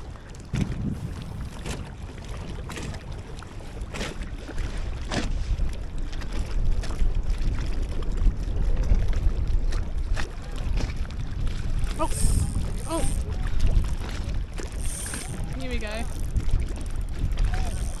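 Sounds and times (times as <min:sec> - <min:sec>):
small waves lapping: 0:00.0 - 0:18.0
wind buffeting microphone: 0:00.0 - 0:18.0.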